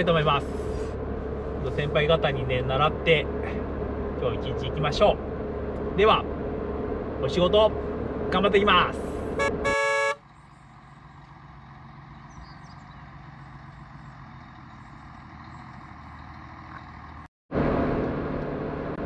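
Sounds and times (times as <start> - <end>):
distant truck diesel engine: 0.0 - 19.0
road noise inside vehicle cab: 0.0 - 19.0.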